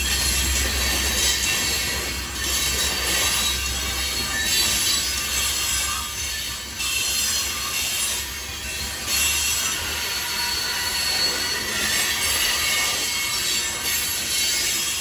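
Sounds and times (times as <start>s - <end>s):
steel wheels rumbling on rails: 0.0s - 15.0s.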